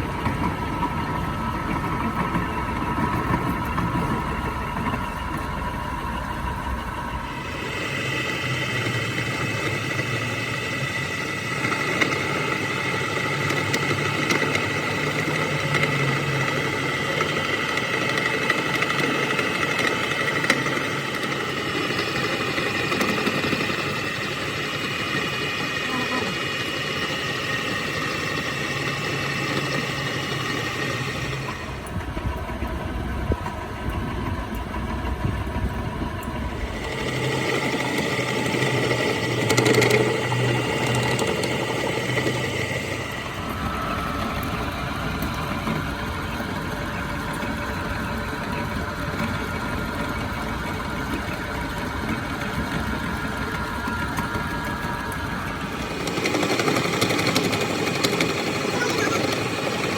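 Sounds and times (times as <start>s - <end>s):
workshop machinery humming: 0.0s - 59.9s.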